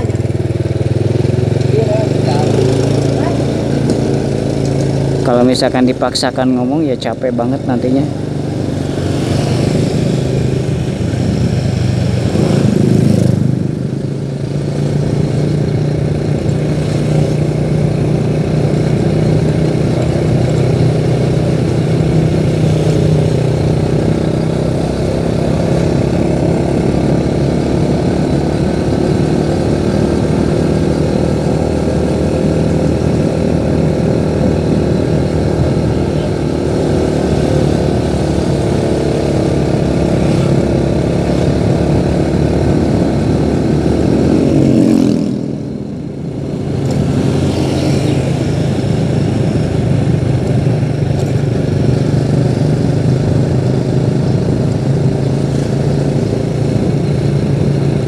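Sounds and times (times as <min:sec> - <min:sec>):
road noise: 0:00.0 - 0:58.0
vehicle engine running: 0:00.0 - 0:58.0.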